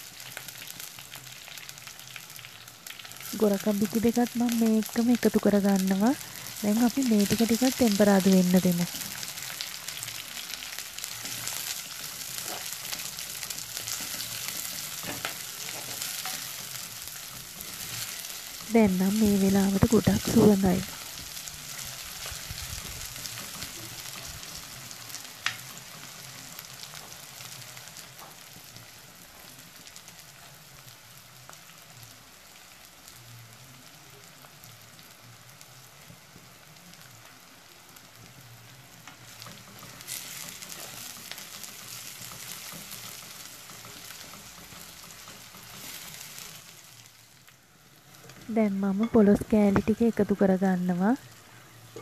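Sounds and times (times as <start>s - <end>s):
vegetables sizzling in hot oil: 0.0s - 52.0s.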